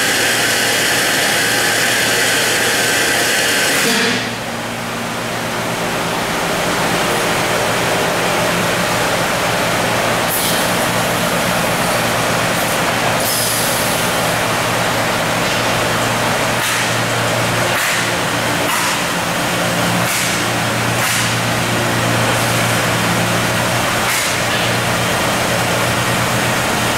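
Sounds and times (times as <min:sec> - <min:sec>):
machine hum and drone: 0:00.0 - 0:26.9.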